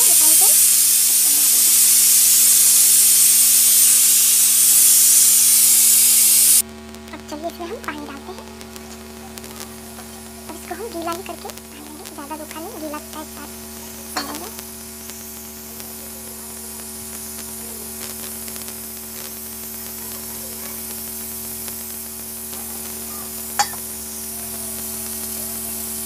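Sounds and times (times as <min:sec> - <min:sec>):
steady hum and hiss: 0:00.0 - 0:26.0.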